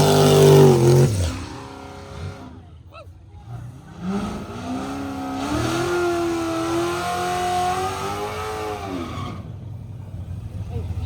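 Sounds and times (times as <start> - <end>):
car engine accelerating hard: 0.0 - 2.7, 3.4 - 11.0.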